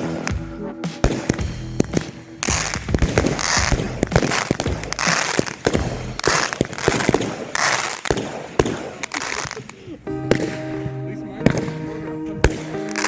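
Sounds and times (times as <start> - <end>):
fireworks crackling hiss: 0.0 - 13.0
fireworks popping and cracking: 0.0 - 13.0.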